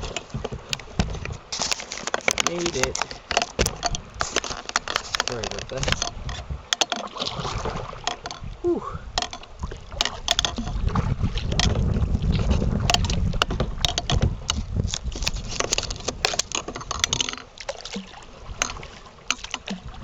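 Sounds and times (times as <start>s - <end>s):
paddle knocks and splashes: 0.0s - 20.0s
wind rumbling on microphone: 0.0s - 20.0s.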